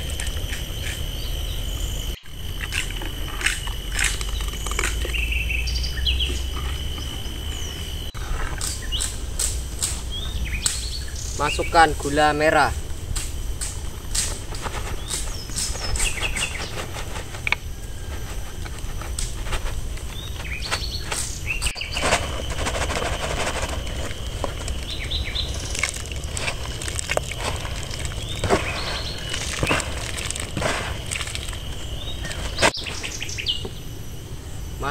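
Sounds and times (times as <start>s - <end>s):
steady low rumble: 0.0s - 32.5s
birds chirping: 0.0s - 34.9s.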